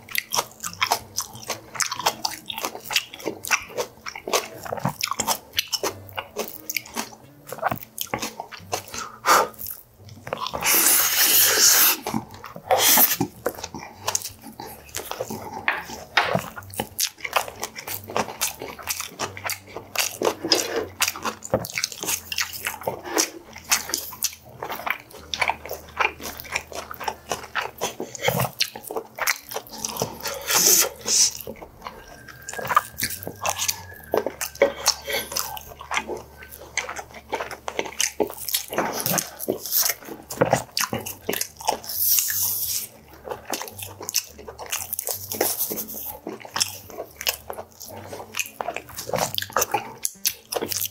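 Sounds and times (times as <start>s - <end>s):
lip smacks: 0.0s - 50.9s
person chewing with wet crunches: 0.0s - 50.9s.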